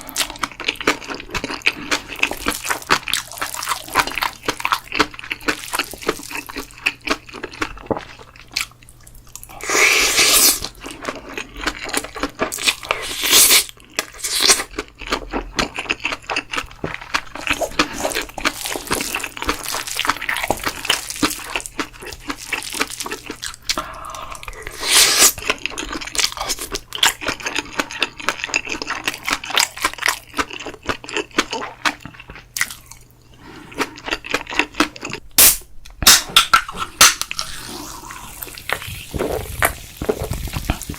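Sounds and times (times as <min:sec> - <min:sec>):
crunchy chewing: 0:00.0 - 0:35.2.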